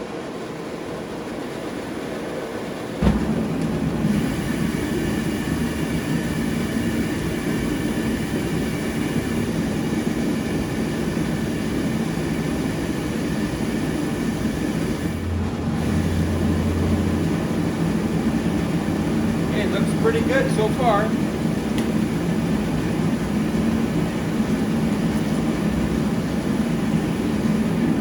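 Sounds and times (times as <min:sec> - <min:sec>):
forge blower and gas flame: 0:00.0 - 0:28.0.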